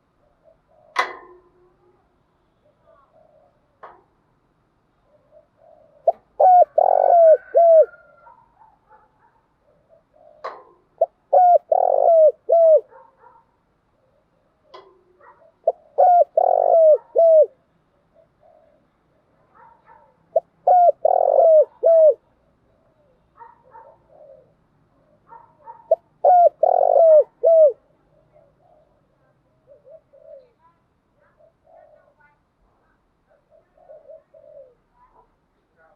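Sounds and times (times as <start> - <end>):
dove cooing: 0.0 - 2.0, 2.6 - 4.0, 5.0 - 13.4, 14.0 - 32.3, 33.3 - 35.9.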